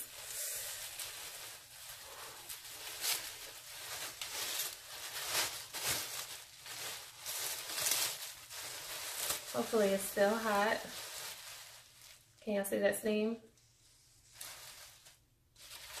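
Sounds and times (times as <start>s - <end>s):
plastic bag crinkling: 0.0s - 12.8s, 14.2s - 16.0s.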